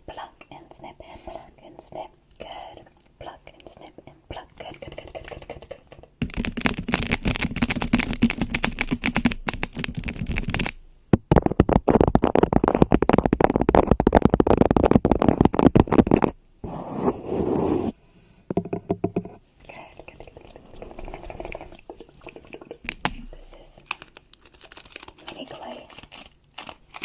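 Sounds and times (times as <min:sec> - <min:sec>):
scratching and tapping on microphone: 0:03.2 - 0:17.9, 0:18.5 - 0:26.7.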